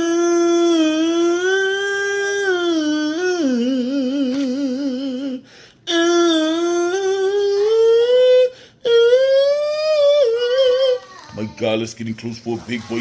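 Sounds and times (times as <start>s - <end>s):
person humming: 0.0s - 11.3s.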